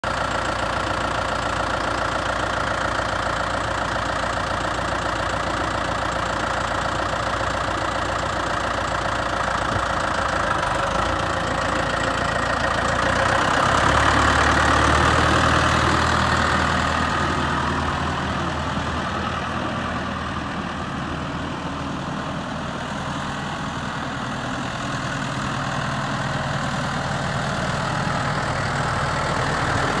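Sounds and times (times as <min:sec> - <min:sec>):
tractor diesel engine idling: 0:00.0 - 0:30.0.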